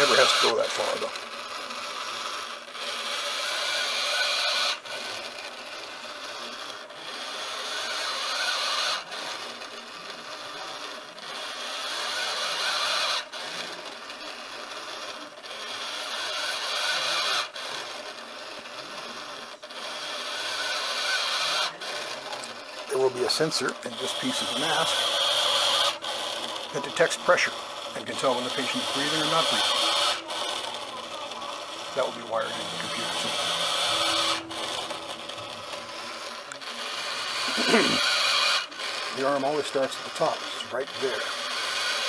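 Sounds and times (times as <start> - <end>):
servo winch winding cord: 0.0 - 42.0.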